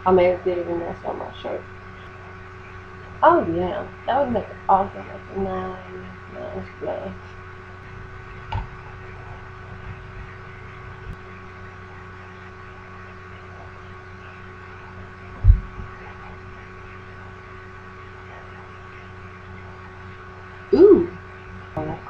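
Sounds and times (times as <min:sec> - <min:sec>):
steady hum of held tones: 0:00.0 - 0:22.0.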